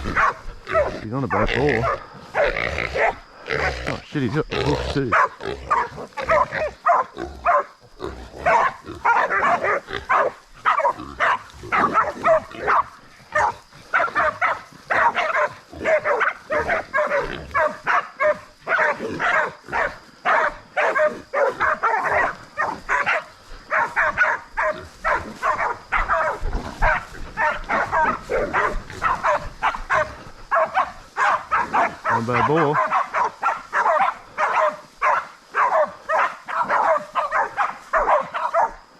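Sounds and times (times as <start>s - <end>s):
boar squealing: 0.0s - 34.5s
dogs barking: 0.0s - 38.9s.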